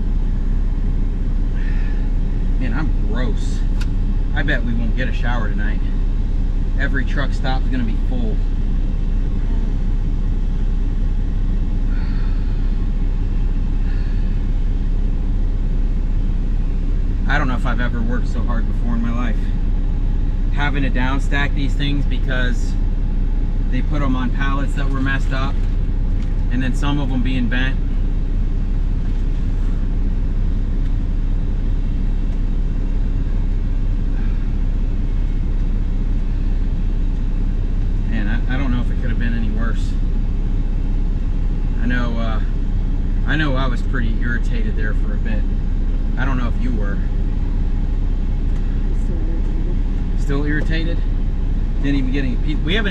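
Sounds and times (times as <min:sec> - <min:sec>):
road noise: 0:00.0 - 0:52.9
truck engine rumble: 0:00.0 - 0:52.9.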